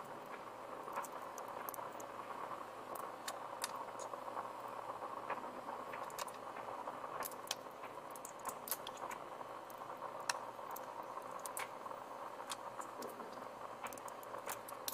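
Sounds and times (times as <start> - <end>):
background hiss: 0.0 - 14.9.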